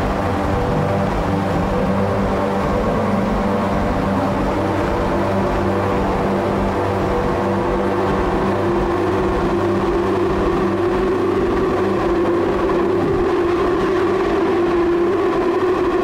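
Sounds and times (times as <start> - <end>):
droning tone: 0.0 - 16.0
low pulsing rhythm: 0.0 - 16.0.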